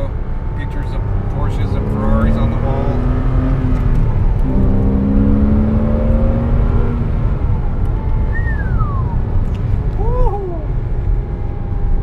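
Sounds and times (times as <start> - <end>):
car engine accelerating: 0.0 - 12.0
low road rumble: 0.0 - 12.0.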